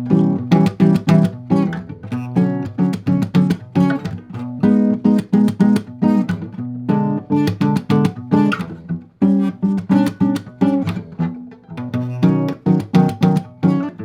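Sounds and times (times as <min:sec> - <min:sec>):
guitar chords plucked: 0:00.0 - 0:14.0.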